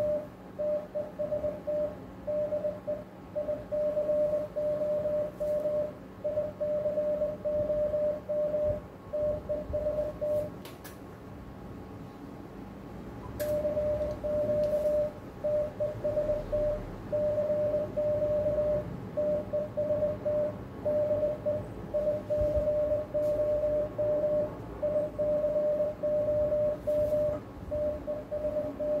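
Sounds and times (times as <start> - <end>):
morse code tone: 0.0 - 10.6, 13.4 - 29.0.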